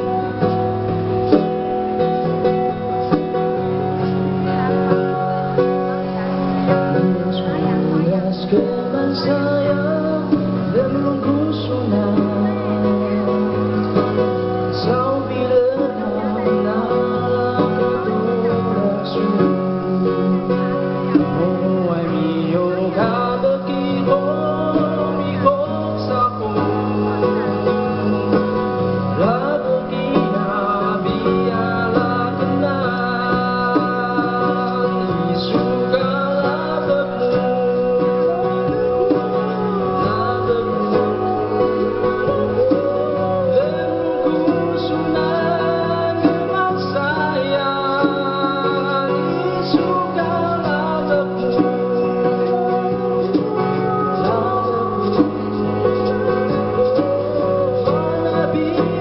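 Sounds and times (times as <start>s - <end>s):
song with acoustic guitar: 0.0s - 59.0s.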